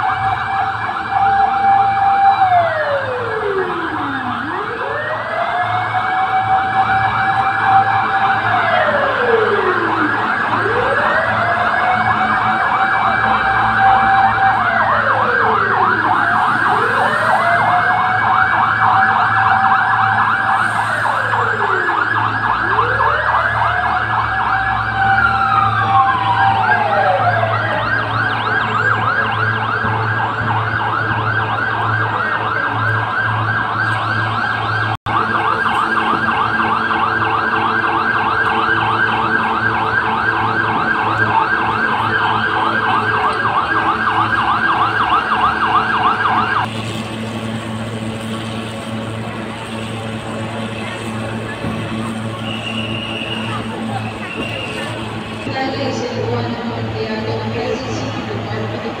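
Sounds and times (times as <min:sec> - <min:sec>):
siren yelping: 0:00.0 - 0:46.7, 0:50.0 - 0:57.6
siren wailing: 0:00.0 - 0:59.0.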